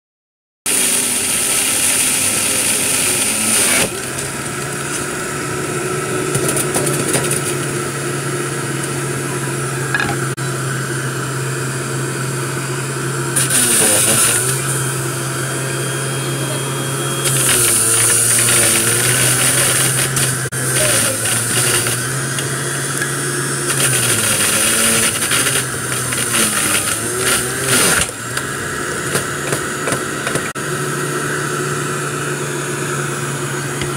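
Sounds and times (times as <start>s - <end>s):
juicer motor grinding: 0.7s - 33.9s.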